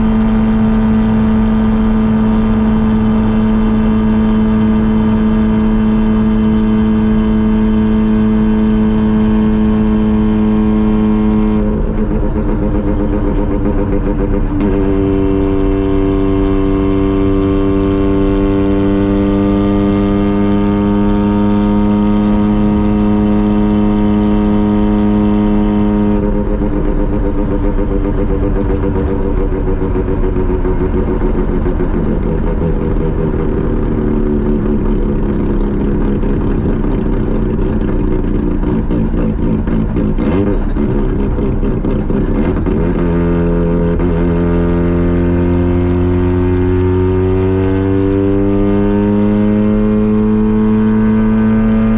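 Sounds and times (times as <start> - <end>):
rotary engine and exhaust driving: 0.0 - 51.9.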